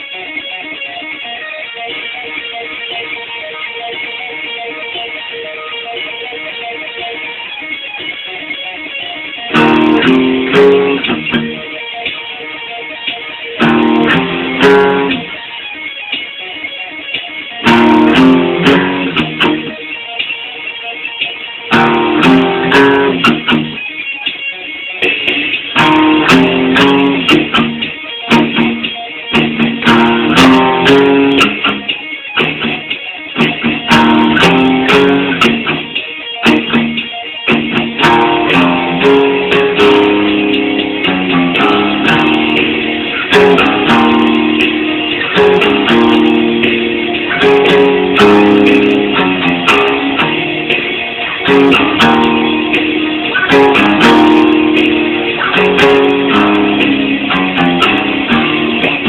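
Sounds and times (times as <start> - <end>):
heavy metal guitar riff: 0.0 - 59.0.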